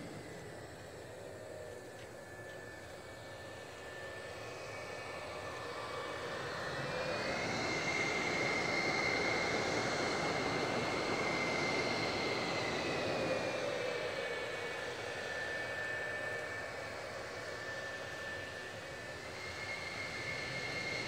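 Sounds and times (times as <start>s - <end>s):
jet engines rushing with whine: 0.0s - 21.0s.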